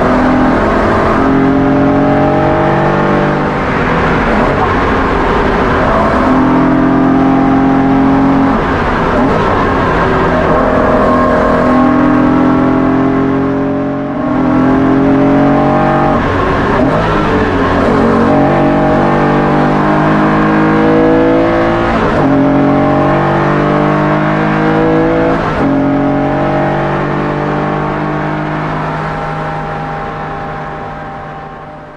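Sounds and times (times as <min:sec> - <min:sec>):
car engine revving through gears: 0:00.0 - 0:31.9.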